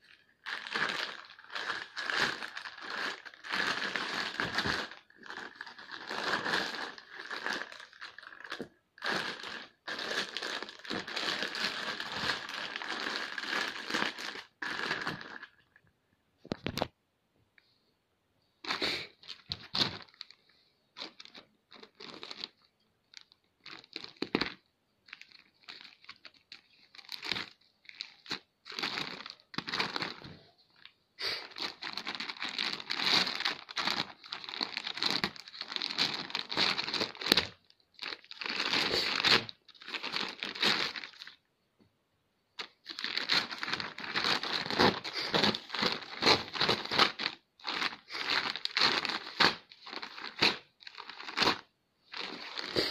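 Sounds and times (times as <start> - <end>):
plastic mailer bag crinkling: 0.0 - 15.6, 19.3 - 41.4, 42.6 - 52.9.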